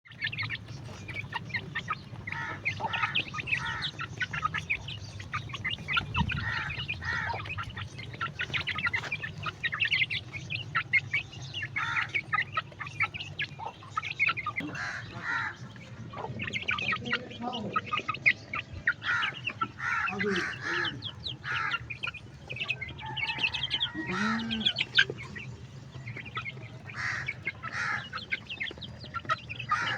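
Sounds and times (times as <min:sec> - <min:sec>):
baby chicks peeping: 0:00.0 - 0:29.9.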